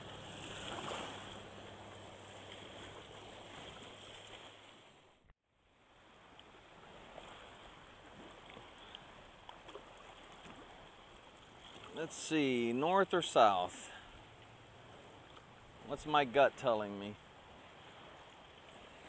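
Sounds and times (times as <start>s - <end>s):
water sloshing and lapping: 0.0s - 19.0s
wind: 0.0s - 19.0s.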